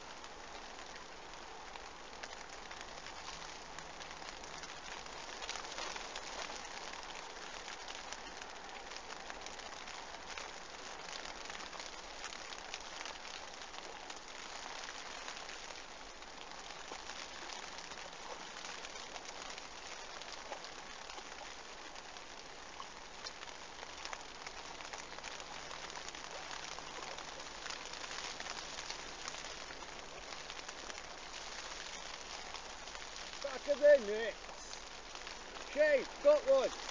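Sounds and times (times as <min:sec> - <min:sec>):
steady rain patter: 0:00.0 - 0:36.9.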